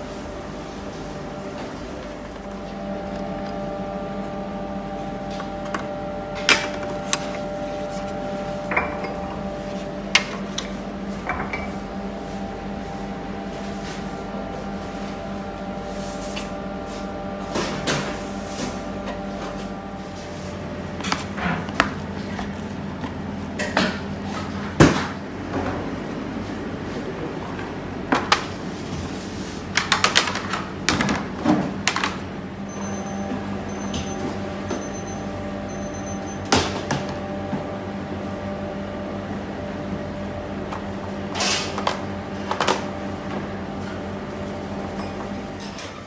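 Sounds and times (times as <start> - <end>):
bakery machinery humming: 0.0 - 46.0.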